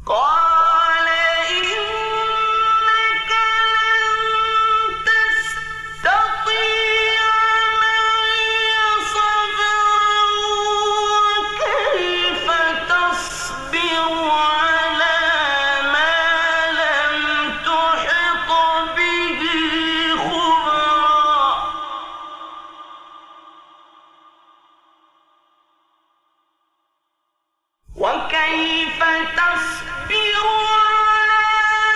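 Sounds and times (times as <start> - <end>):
man reciting melodically: 0.0 - 24.1, 27.9 - 31.9.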